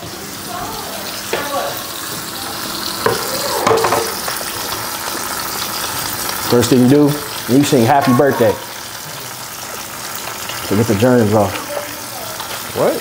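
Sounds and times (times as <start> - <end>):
faucet water running into sink: 0.0 - 13.0.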